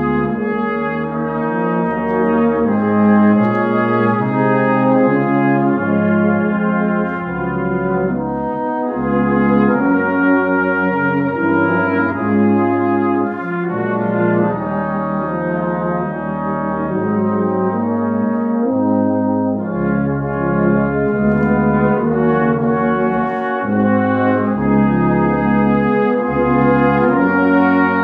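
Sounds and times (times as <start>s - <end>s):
brass band playing slow chords: 0.0s - 28.0s
tuba bass line: 0.0s - 28.0s.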